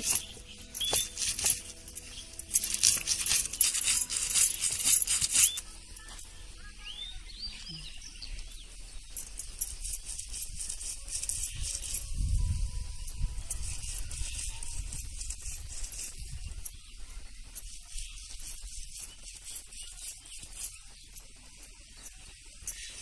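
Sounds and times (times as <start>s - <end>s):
stone roller grinding on stone: 0.0s - 6.4s, 8.0s - 23.0s.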